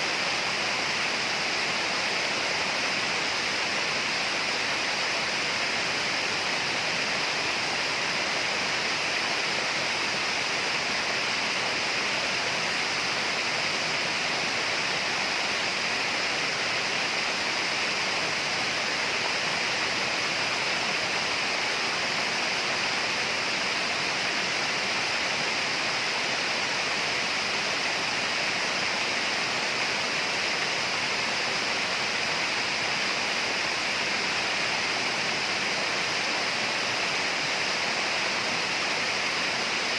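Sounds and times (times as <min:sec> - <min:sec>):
rainforest rushing hiss: 0:00.0 - 0:39.9.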